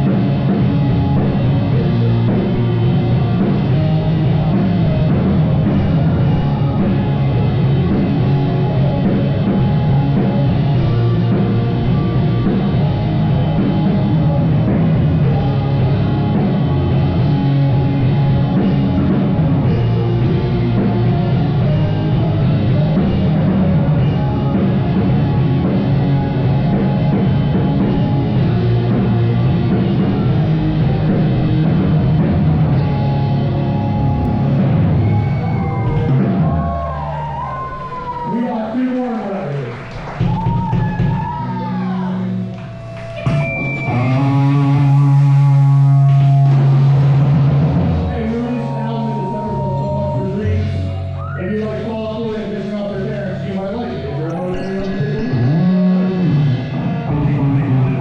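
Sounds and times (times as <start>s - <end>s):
rock band playing loud: 0.0s - 58.0s.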